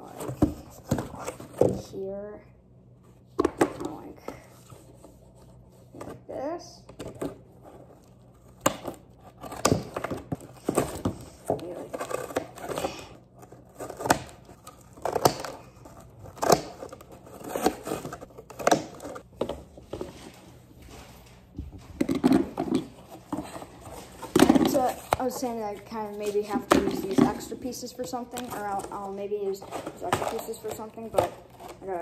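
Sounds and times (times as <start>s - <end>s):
cardboard rustling: 3.0s - 32.0s.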